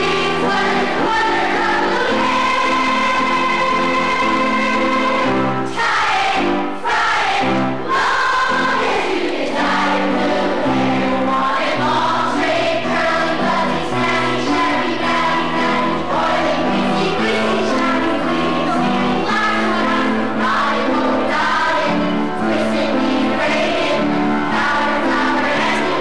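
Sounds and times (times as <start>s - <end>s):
voices singing together: 0.0s - 26.0s.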